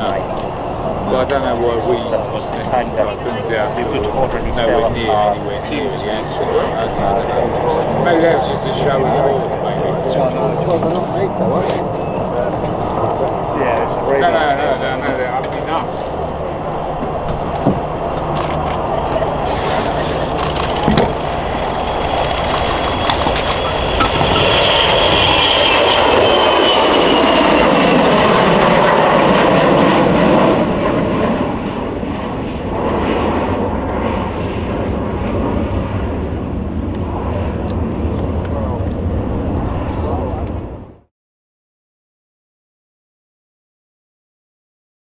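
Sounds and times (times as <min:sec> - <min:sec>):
jet taking off: 0:00.0 - 0:41.0.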